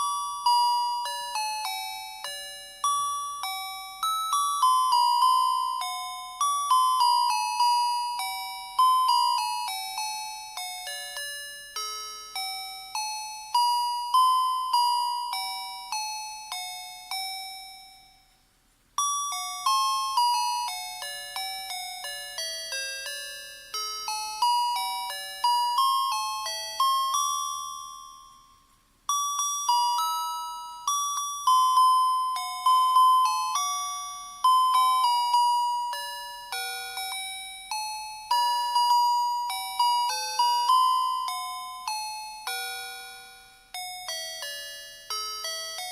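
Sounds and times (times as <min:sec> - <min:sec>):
tinny electronic bell melody: 0:00.0 - 0:18.4, 0:19.0 - 0:45.9.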